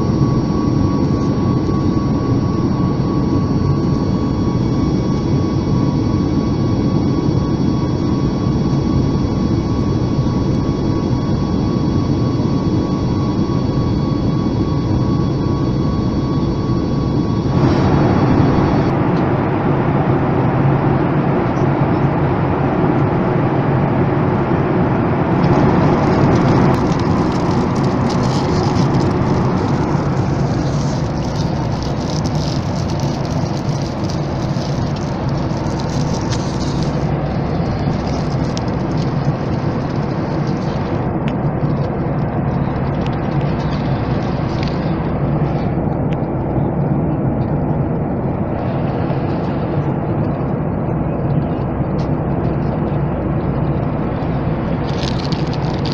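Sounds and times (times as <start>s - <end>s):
airplane cabin engine roar: 0.0s - 55.9s.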